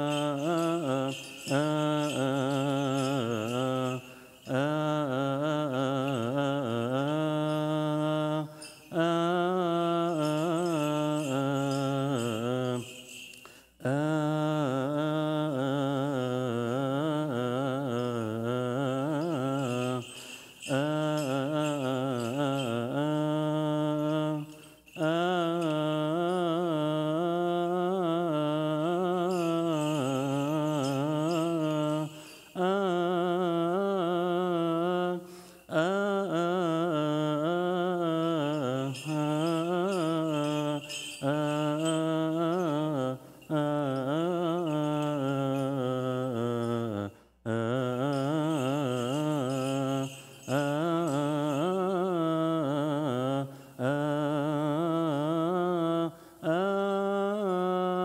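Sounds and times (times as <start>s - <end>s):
man chanting a hymn: 0.0s - 58.0s.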